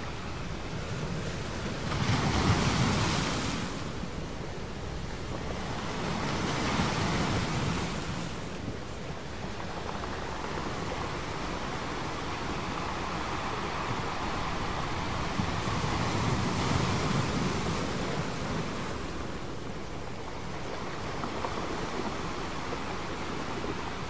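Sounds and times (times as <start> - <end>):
ocean waves: 0.0 - 24.0.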